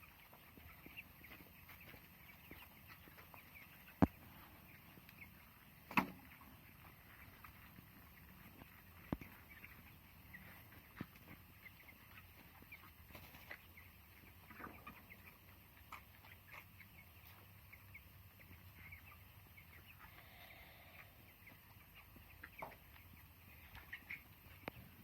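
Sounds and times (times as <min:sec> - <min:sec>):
chickens cheeping: 0:00.0 - 0:25.0.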